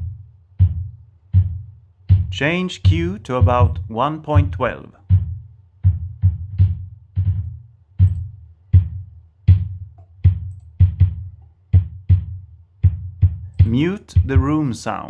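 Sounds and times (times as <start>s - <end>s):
deep bass drum hits: 0.0s - 8.1s, 8.8s - 15.0s
drum kit playing a steady beat: 0.0s - 15.0s.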